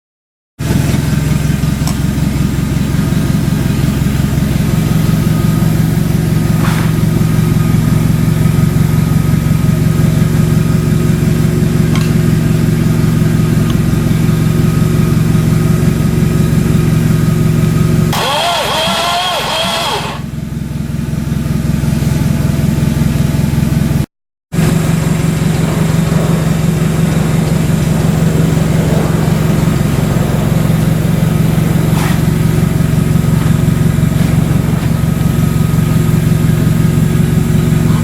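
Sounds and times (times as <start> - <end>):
car engine idling: 0.6 - 38.0.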